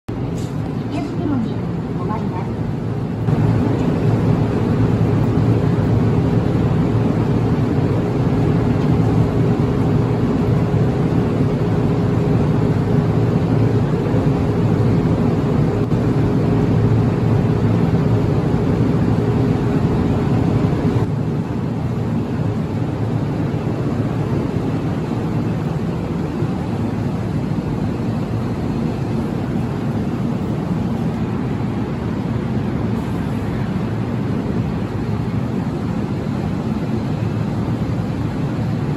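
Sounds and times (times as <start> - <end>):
electric train rumbling: 0.1 - 38.9
steady hum: 0.1 - 38.9.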